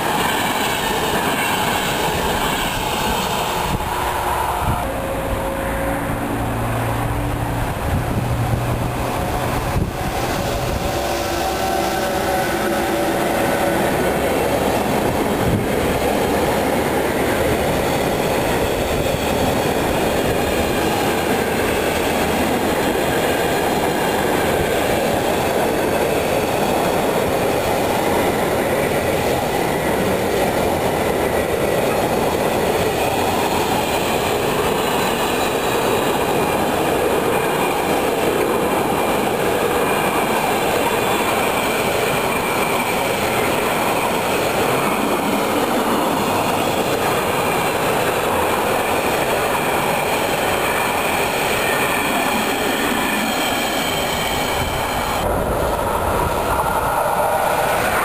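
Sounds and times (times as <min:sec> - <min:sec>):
locomotive humming: 0:00.0 - 0:58.0.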